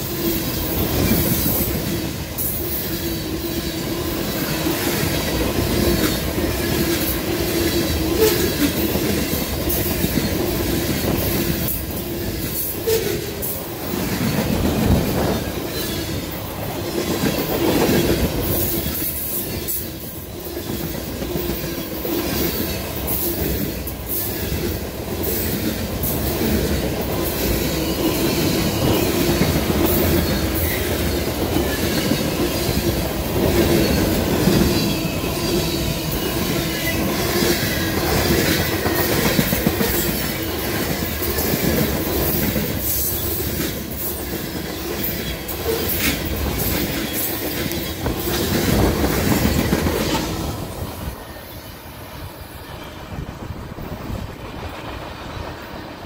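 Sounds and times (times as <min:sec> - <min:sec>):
rail clicks: 0:00.0 - 0:56.0
train wheels rumbling on rails: 0:00.0 - 0:56.0.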